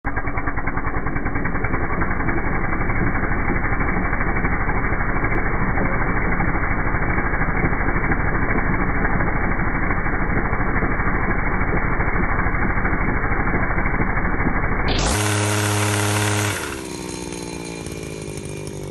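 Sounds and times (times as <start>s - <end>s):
small engine running: 0.0s - 18.9s.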